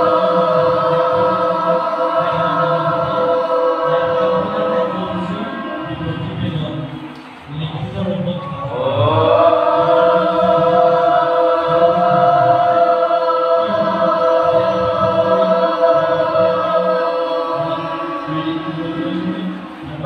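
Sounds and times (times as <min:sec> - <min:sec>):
children chanting in unison: 0:00.0 - 0:07.1, 0:08.5 - 0:20.0.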